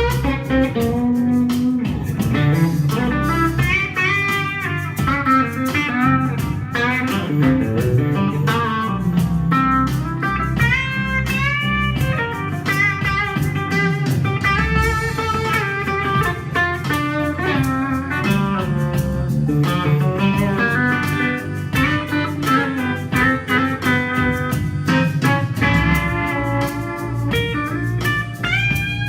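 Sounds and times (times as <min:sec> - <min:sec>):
lead electric guitar: 0:00.0 - 0:29.0
live band playing blues: 0:00.0 - 0:29.0.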